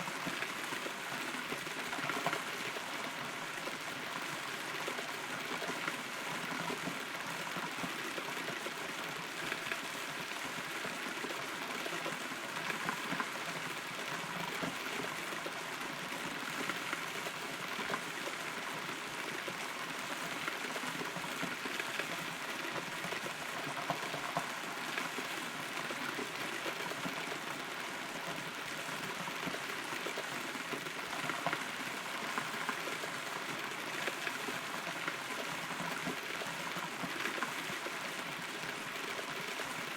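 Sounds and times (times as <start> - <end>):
rain falling on hollow wood: 0.0 - 39.9.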